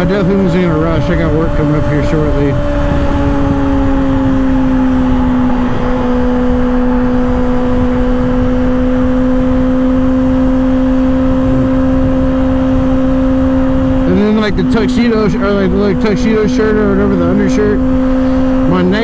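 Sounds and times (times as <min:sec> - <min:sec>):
motorcycle engine at high revs: 0:00.0 - 0:19.0
wind and road noise: 0:00.0 - 0:19.0.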